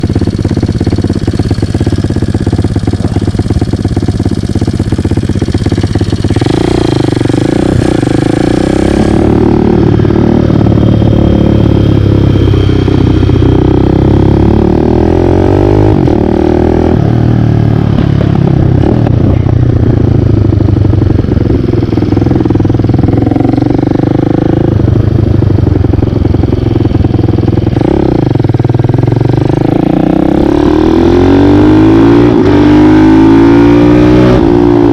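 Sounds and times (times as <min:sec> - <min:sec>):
dirt bike engine revving: 0:00.0 - 0:20.1, 0:26.4 - 0:28.3, 0:29.0 - 0:34.9.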